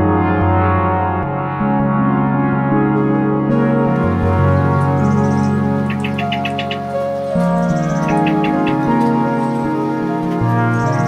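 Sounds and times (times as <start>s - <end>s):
ambient keyboard chords: 0.0s - 11.0s.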